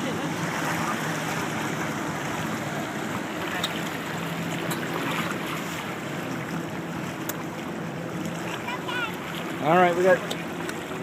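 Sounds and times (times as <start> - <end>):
motorboat engine humming: 0.0 - 11.0
water rushing in boat wake: 0.0 - 11.0.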